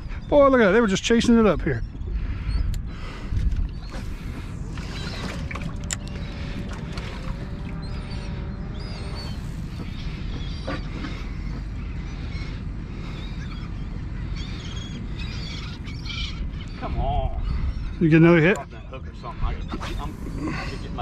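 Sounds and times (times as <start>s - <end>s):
fishing boat engine rumble: 0.0s - 21.0s
seabirds calling: 0.0s - 21.0s.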